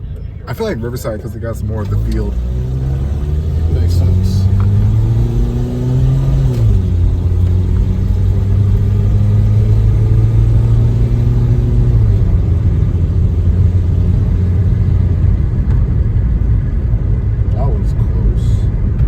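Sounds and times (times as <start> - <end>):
car engine driving: 0.0 - 19.0
road noise: 0.0 - 19.0.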